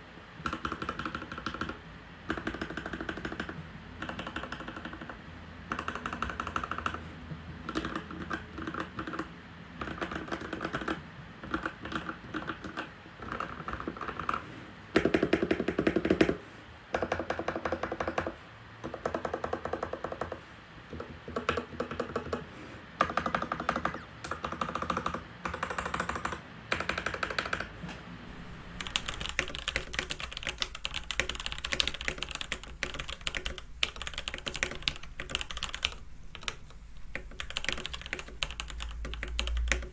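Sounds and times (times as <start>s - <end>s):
mechanical keyboard typing: 0.4s - 14.4s, 15.0s - 16.4s, 17.0s - 39.9s.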